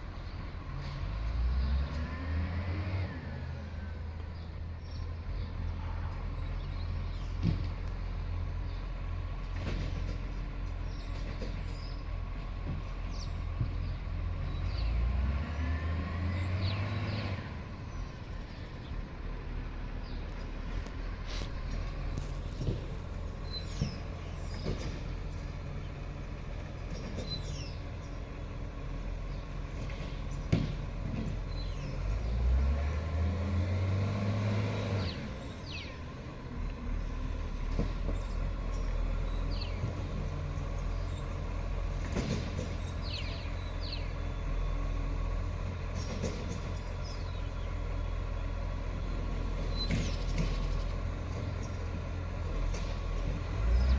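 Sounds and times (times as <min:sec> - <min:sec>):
diesel truck engine revving: 0:00.0 - 0:53.9.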